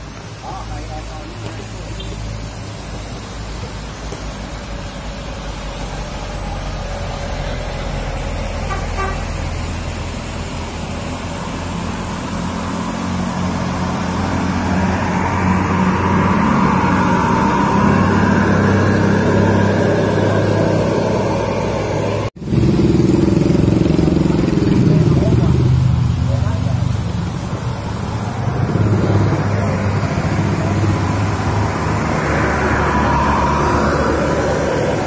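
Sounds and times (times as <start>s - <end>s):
diesel engines labouring uphill: 0.0s - 35.0s
tyres hissing on wet road: 0.0s - 35.0s.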